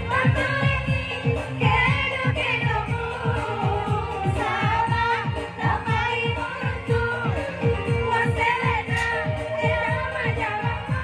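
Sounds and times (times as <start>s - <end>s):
programmed drum beat: 0.0s - 11.0s
woman singing through pa system: 0.0s - 11.0s.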